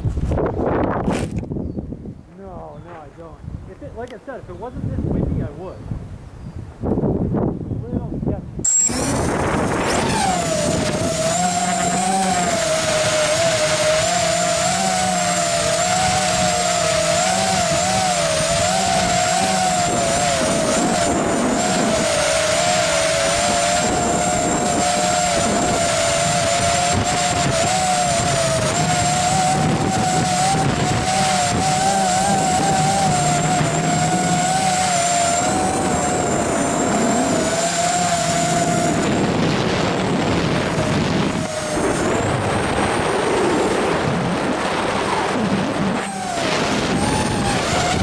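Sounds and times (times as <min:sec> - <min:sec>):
wind noise: 0:00.0 - 0:48.0
drone propellers whining: 0:08.6 - 0:48.0.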